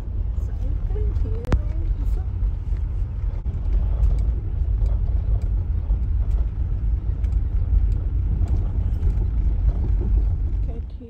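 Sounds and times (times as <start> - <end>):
car rolling on gravel: 0.0 - 11.0.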